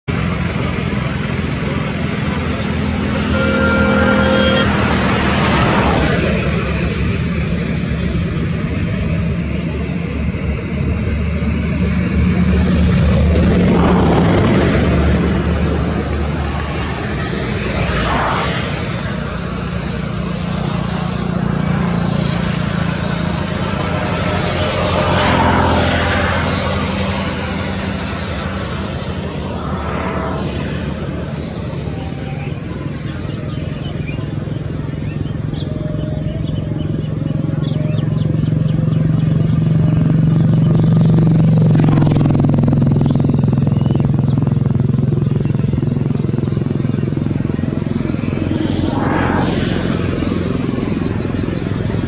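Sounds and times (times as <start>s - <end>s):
low engine drone: 0.0s - 52.0s
vehicles passing by: 0.0s - 52.0s.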